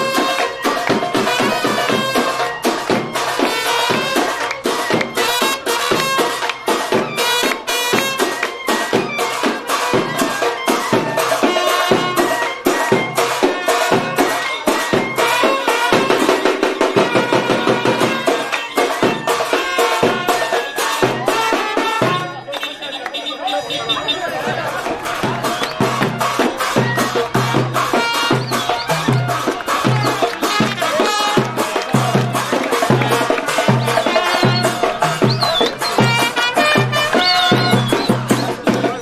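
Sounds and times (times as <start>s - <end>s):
fast percussion beat: 0.0s - 39.0s
reedy wind instrument melody: 0.0s - 39.0s.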